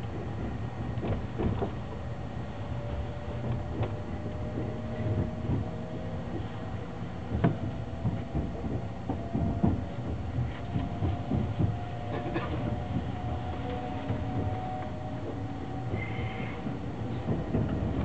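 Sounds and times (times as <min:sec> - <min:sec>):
train low rumble: 0:00.0 - 0:18.0
wheels clunking over rail joints: 0:00.0 - 0:18.0.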